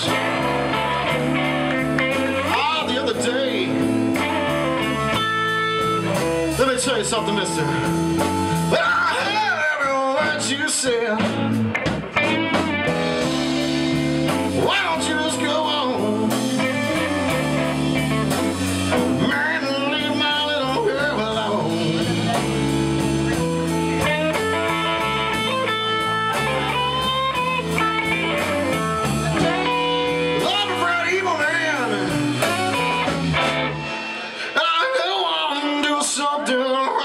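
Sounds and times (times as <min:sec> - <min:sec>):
electric guitar lead: 0:00.0 - 0:36.9
bass guitar: 0:00.0 - 0:37.0
drums: 0:00.0 - 0:37.0.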